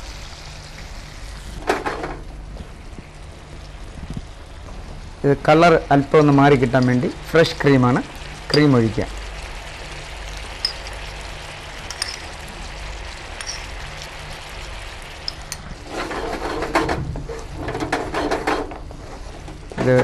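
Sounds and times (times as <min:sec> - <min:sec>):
sauce sizzling in frying pan: 0:00.0 - 0:16.6.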